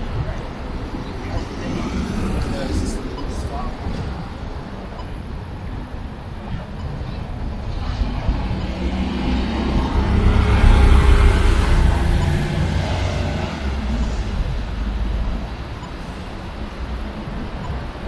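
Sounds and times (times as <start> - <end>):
bus engine drone: 0.0 - 18.0
steady traffic noise: 0.0 - 18.0.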